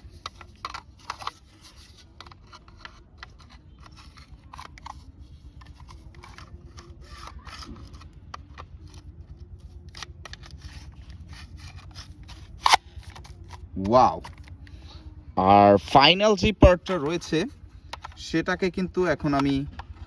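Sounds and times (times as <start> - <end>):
plastic parts clicking and rubbing: 0.0 - 14.9, 16.4 - 20.0
low steady hum: 0.0 - 20.0.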